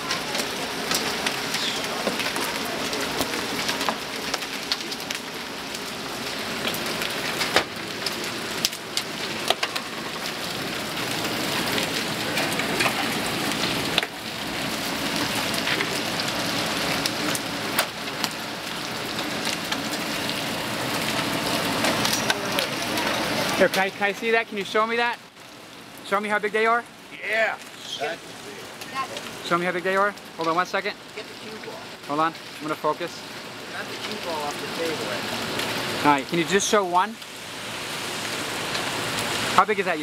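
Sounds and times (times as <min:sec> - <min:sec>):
hailstones clattering: 0:00.0 - 0:40.0.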